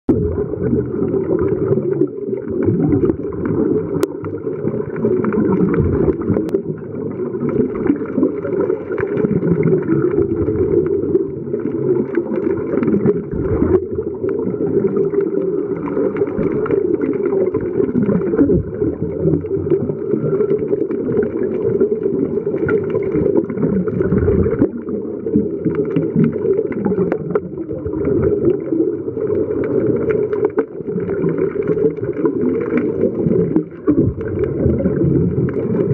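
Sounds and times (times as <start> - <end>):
scuba breathing bubbles: 0.1 - 35.9
underwater rumble and gurgling: 0.1 - 35.9.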